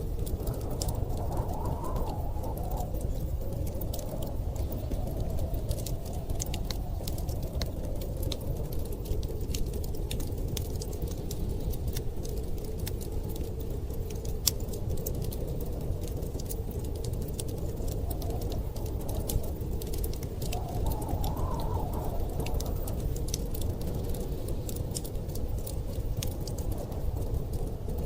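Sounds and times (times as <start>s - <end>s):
storm wind rumble: 0.0s - 28.0s
wood fire crackling: 0.0s - 28.0s.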